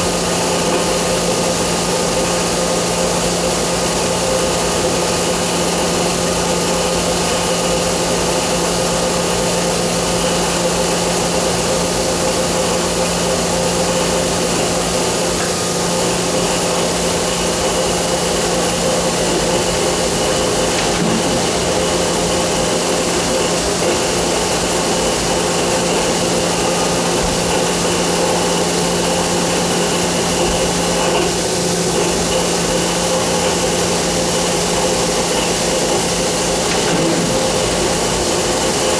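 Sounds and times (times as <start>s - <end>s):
machine hum and whirring: 0.0s - 38.9s.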